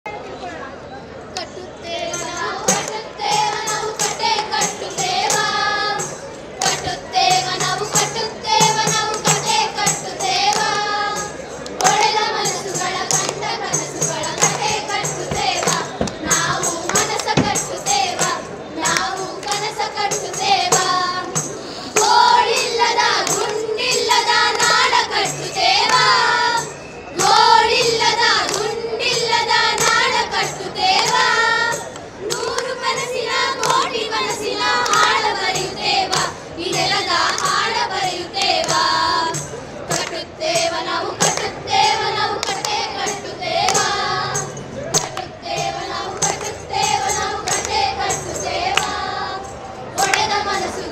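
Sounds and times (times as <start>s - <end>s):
women singing in unison: 1.4s - 50.9s
tambourine: 2.1s - 50.9s
hand claps: 6.6s - 49.0s, 50.0s - 50.8s.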